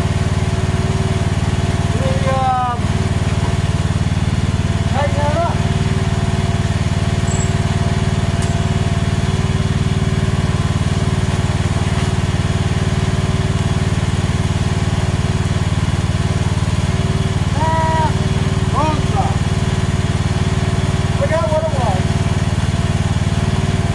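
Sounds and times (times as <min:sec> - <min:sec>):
excavator engine running: 0:00.0 - 0:23.9.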